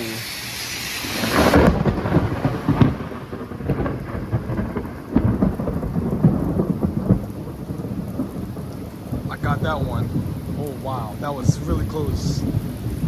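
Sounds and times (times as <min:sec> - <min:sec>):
steady rain: 0:00.0 - 0:13.0
thunder crack and rumbling: 0:01.0 - 0:13.0.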